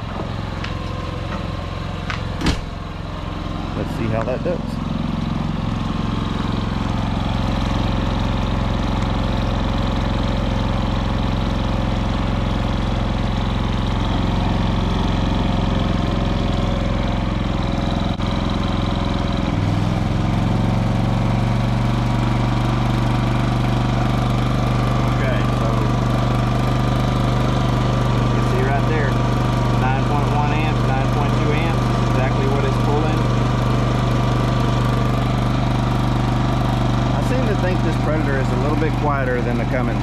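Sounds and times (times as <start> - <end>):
generator engine running: 0.0 - 40.0.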